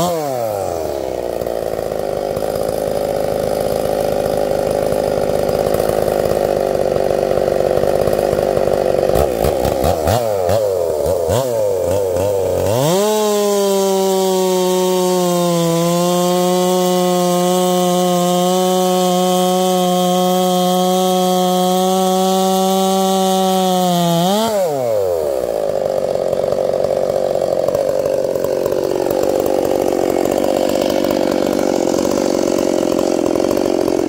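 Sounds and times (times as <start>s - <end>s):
chainsaw cutting through log: 0.0s - 34.0s
chainsaw revving: 0.0s - 34.0s.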